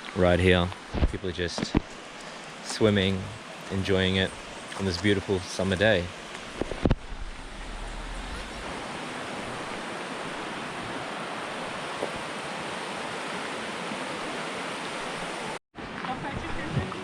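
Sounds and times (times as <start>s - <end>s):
river water rushing: 1.9s - 16.3s.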